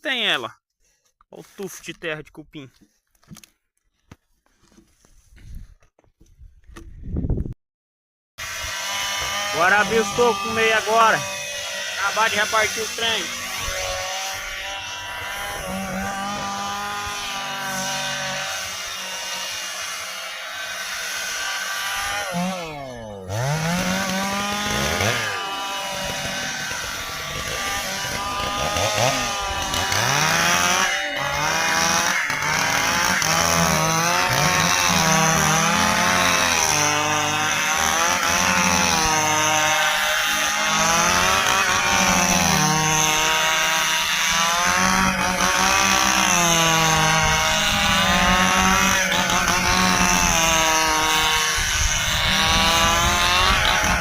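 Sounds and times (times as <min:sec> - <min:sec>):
chainsaw cutting wood: 0:08.4 - 0:54.0.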